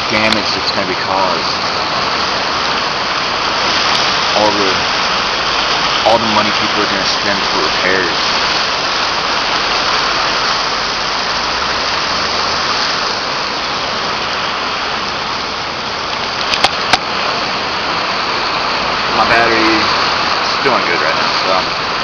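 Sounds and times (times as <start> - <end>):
river floodwater rushing: 0.0 - 22.0.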